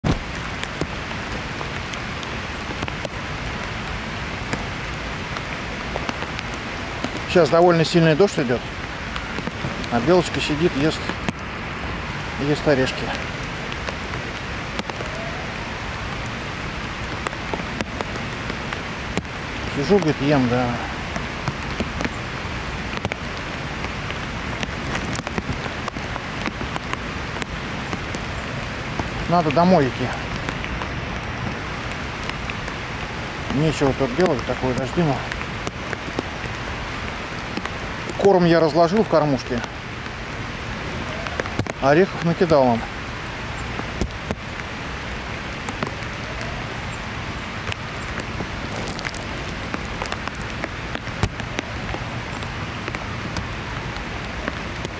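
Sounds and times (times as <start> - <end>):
heavy rain falling: 0.0 - 54.9
raindrops tapping close by: 0.0 - 54.9.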